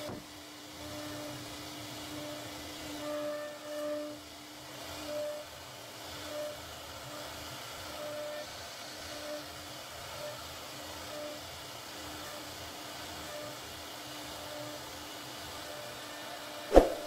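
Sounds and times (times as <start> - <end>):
router spindle whirring hiss: 0.0 - 16.8.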